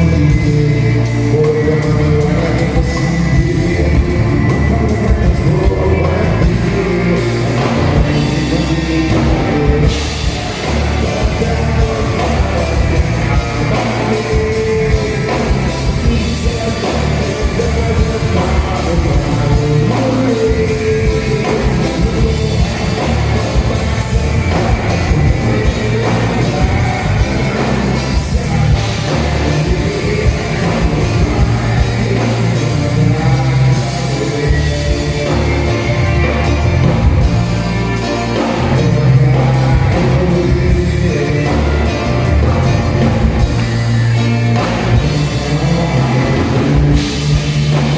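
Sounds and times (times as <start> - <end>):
drum kit: 0.0 - 47.9
person singing: 0.0 - 47.9
rock band playing: 0.0 - 47.9.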